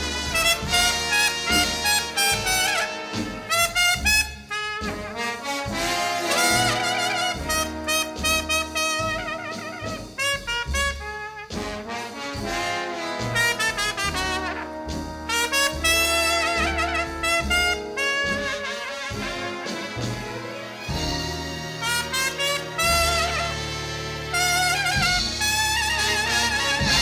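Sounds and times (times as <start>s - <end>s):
bass notes: 0.0s - 27.0s
jazz orchestra playing: 0.0s - 27.0s
trumpet and trombones: 0.0s - 27.0s.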